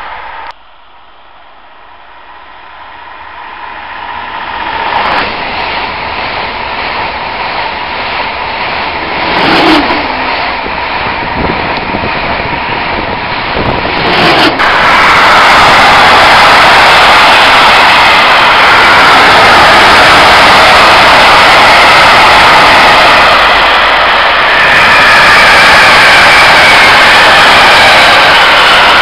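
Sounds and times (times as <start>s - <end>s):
freight train rumbling past: 0.0s - 0.5s, 1.3s - 29.0s
high-speed train rushing past: 0.0s - 0.6s, 1.2s - 29.0s.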